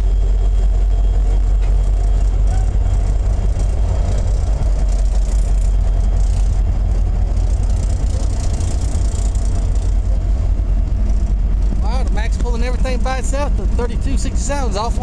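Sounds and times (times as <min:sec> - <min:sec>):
diesel locomotive engine rumbling: 0:00.0 - 0:15.0
freight cars rolling by: 0:00.0 - 0:15.0.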